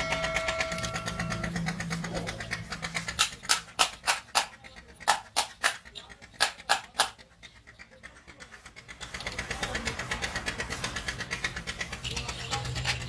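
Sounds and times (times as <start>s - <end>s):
metallic clicks of roller bearing: 0.0s - 13.0s.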